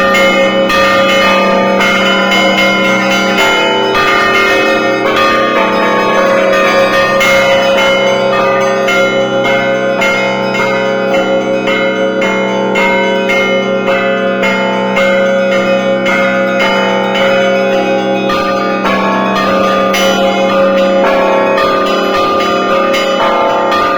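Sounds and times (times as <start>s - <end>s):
high church bells struck rapidly: 0.0s - 23.9s
low bells ringing hum: 0.0s - 23.9s.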